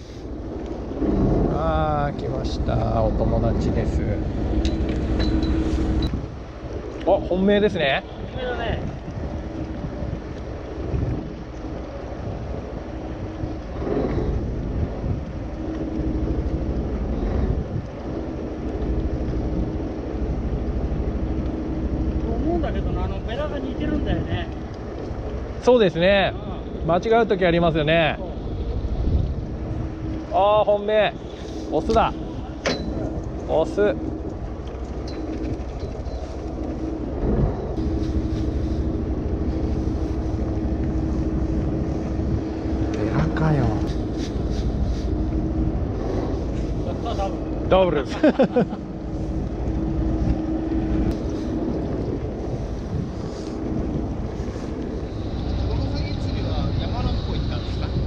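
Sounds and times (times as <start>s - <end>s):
boat engine rumbling: 0.0s - 58.0s
wind buffeting microphone: 0.0s - 58.0s
faint steady hum: 9.0s - 58.0s.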